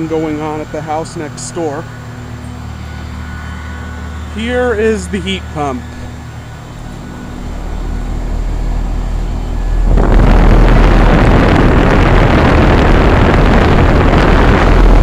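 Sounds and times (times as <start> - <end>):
heat pump compressor hum: 0.0 - 15.0
loud rushing of air: 0.0 - 15.0.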